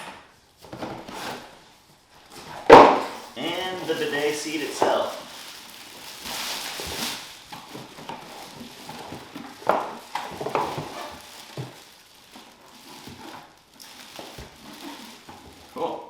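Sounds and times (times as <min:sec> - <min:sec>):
packaging crinkling and rustling: 0:00.0 - 0:15.9.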